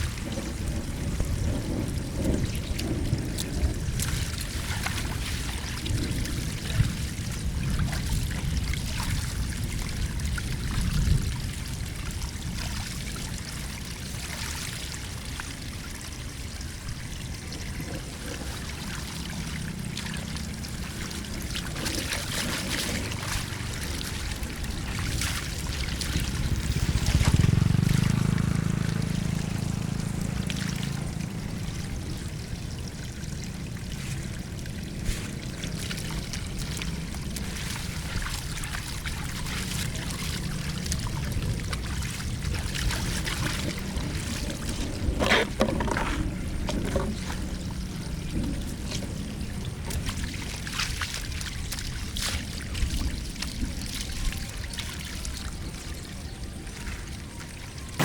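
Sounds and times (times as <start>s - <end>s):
small water splashes: 0.0s - 58.0s
water pouring and trickling: 0.0s - 58.0s.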